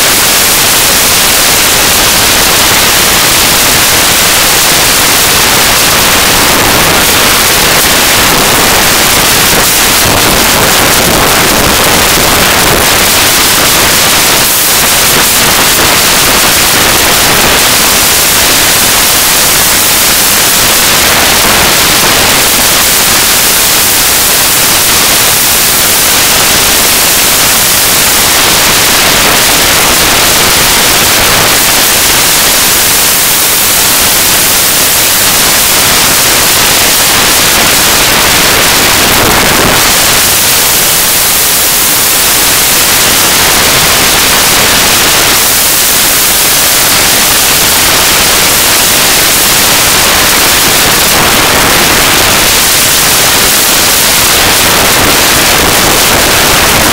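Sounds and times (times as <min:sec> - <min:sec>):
loud microphone hiss: 0:00.0 - 0:56.9.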